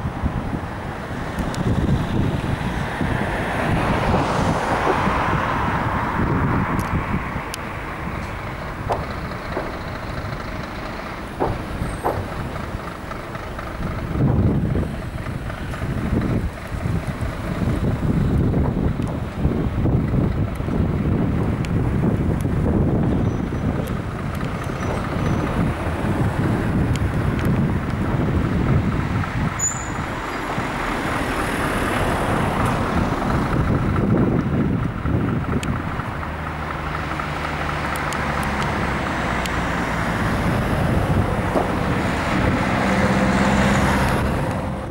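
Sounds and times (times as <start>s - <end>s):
jet engine rumbling: 0.0s - 44.9s
wind buffeting microphone: 0.0s - 44.9s.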